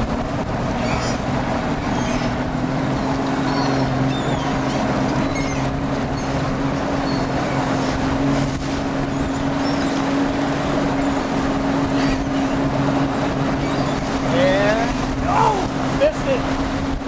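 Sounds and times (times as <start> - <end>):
boat engine humming: 0.0 - 17.0
wind and water rushing: 0.0 - 17.0.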